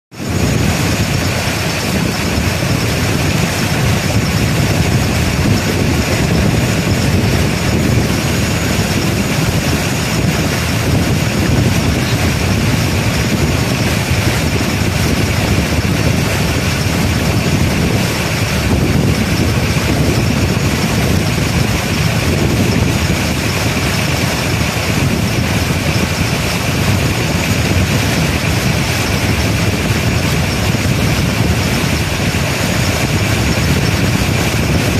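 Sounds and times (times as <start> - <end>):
boat engine running: 0.1 - 34.9
water rushing along hull: 0.1 - 34.9.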